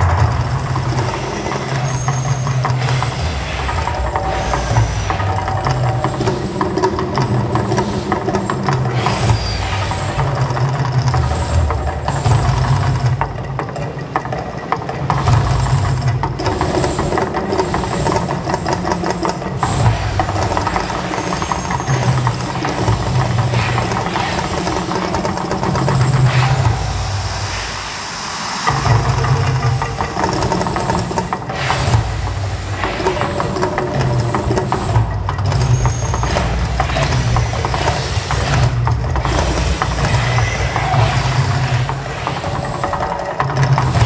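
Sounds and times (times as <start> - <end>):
fire and fountain effects noise: 0.0 - 44.0
loud rumbling soundtrack: 0.0 - 44.0.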